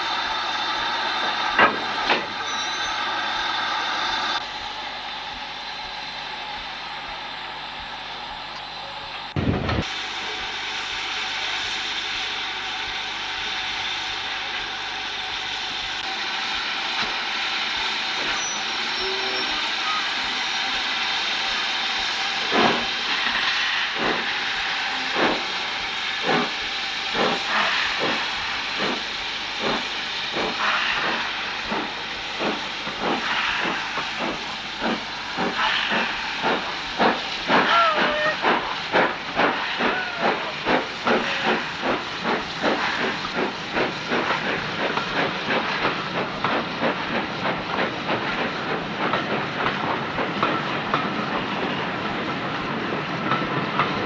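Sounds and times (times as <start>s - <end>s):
steam locomotive exhaust beats: 0.0s - 54.0s
steam hissing: 9.6s - 54.0s.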